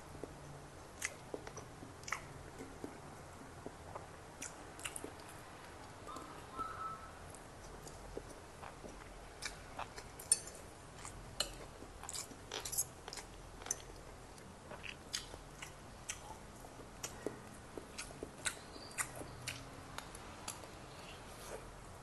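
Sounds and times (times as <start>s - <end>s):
person chewing food: 0.1s - 6.6s, 7.3s - 21.8s.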